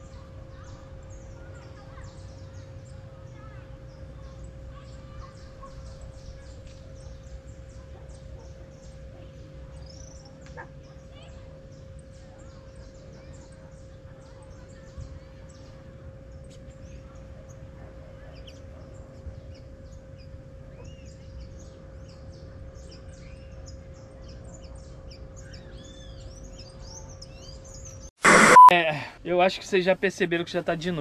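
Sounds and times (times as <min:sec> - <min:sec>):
small birds chirping: 0:00.0 - 0:28.7.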